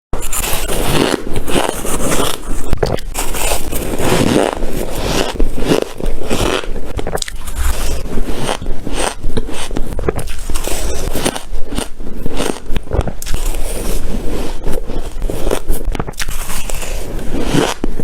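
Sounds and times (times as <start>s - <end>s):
freezer frost crunching: 0.2s - 18.0s.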